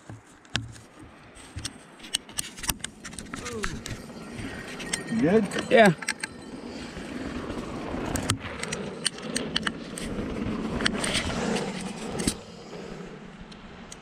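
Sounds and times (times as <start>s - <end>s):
sharp clicks and rattles: 0.0s - 12.6s
bicycle tyre and wind rush: 0.6s - 14.0s.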